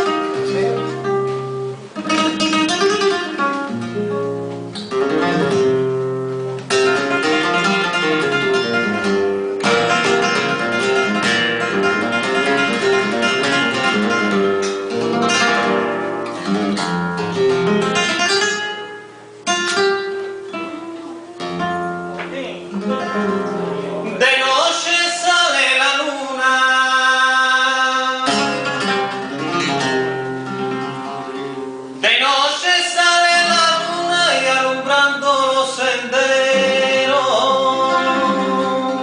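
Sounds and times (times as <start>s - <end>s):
flamenco guitar playing: 0.0s - 39.0s.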